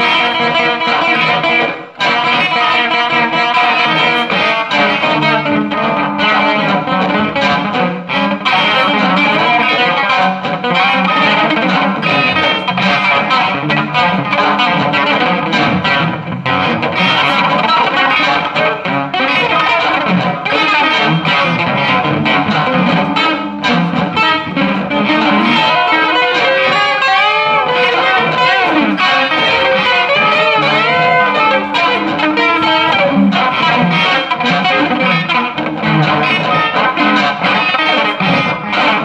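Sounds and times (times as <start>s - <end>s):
electric guitar improvisation with effects: 0.0s - 39.0s.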